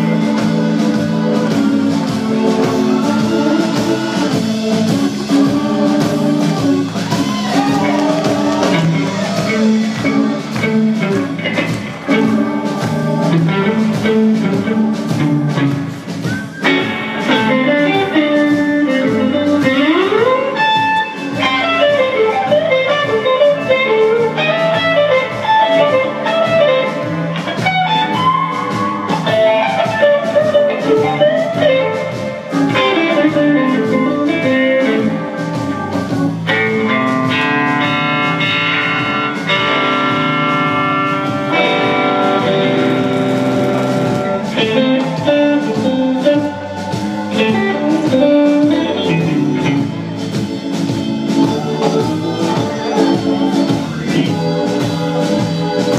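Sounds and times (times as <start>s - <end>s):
blues band playing: 0.0s - 55.9s
electric guitar soloing: 0.0s - 55.9s.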